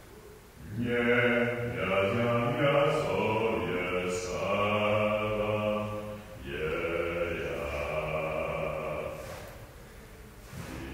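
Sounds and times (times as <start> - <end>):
man singing unaccompanied: 0.6 - 9.6.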